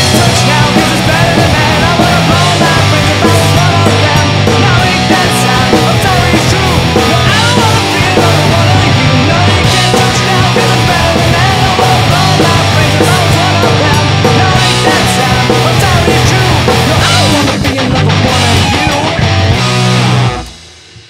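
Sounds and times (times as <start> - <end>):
bass guitar: 0.0 - 21.0
drums: 0.0 - 21.0
electric guitar: 0.0 - 21.0.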